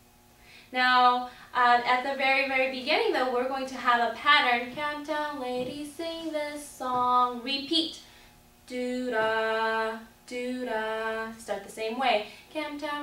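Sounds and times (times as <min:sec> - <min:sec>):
woman singing unaccompanied: 0:00.7 - 0:08.0, 0:08.7 - 0:13.0.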